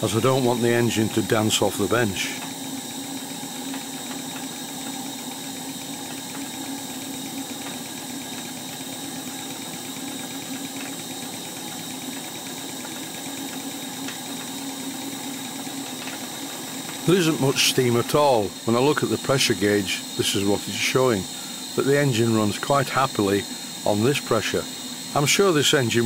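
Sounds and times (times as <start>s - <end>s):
model steam engine running: 0.0s - 26.0s.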